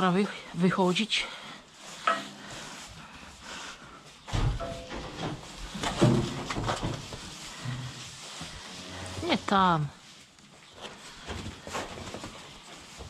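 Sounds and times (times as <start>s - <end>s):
low rumble of cattle moving: 1.6s - 13.0s.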